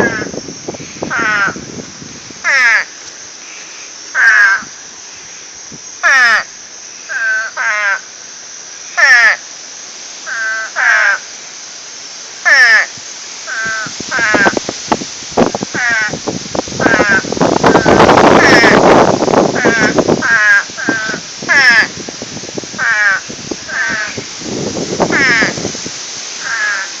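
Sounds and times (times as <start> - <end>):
frogs calling: 0.0 - 27.0.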